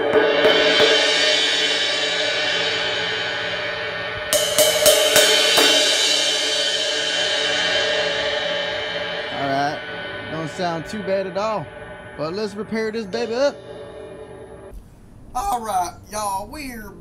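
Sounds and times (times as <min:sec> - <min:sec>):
crash cymbal struck and ringing: 0:00.0 - 0:14.8.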